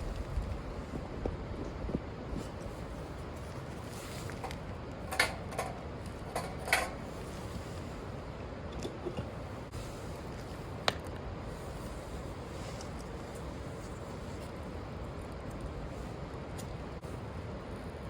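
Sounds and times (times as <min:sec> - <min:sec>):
steady low background noise: 0:00.0 - 0:18.0.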